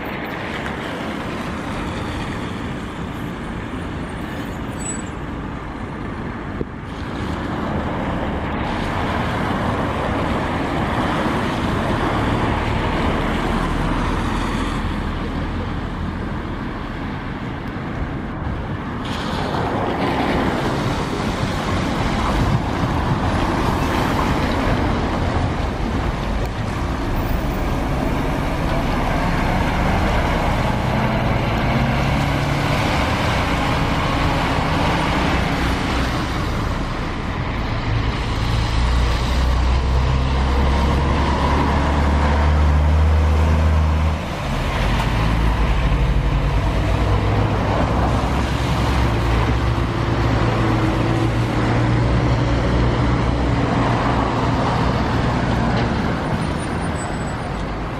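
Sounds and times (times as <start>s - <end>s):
diesel bus engine: 0.0s - 57.9s
traffic: 0.0s - 57.9s
tyre noise on wet road: 0.0s - 57.9s.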